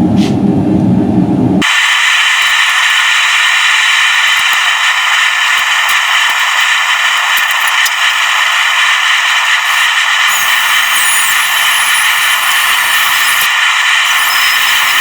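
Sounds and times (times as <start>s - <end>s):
electric drill grinding through steel: 1.6s - 15.0s.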